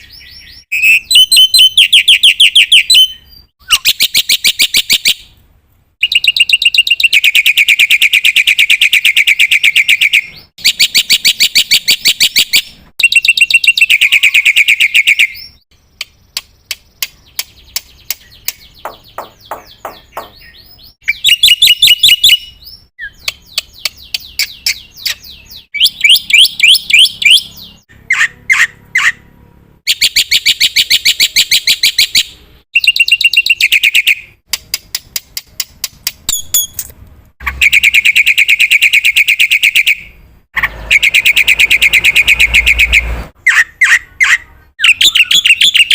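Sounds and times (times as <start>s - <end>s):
bird harsh rattling song: 0.0s - 5.3s, 6.0s - 29.2s, 36.3s - 45.9s.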